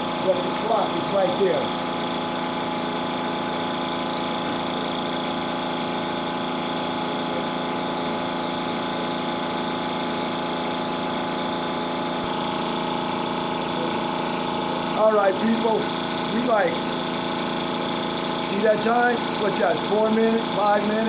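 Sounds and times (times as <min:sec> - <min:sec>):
air compressor humming: 0:00.0 - 0:21.0.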